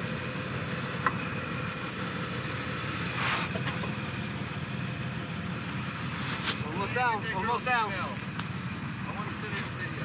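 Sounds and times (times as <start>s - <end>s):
off-road vehicle engine running low: 0.0s - 10.0s.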